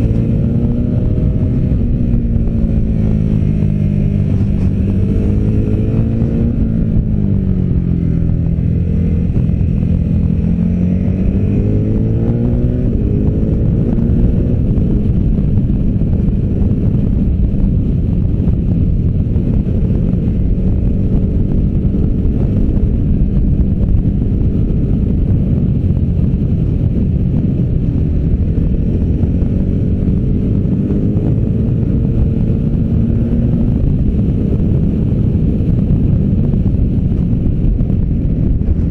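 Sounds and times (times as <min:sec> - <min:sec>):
motorcycle engine at speed: 0:00.0 - 0:38.9
wind rumble on microphone: 0:00.0 - 0:38.9.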